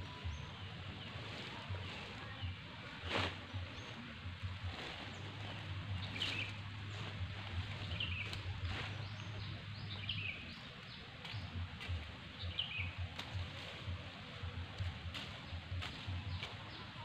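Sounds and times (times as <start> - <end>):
choppy low rumble: 0.0 - 17.0
outdoor background noise: 0.0 - 17.0
small birds chirping: 0.0 - 17.0.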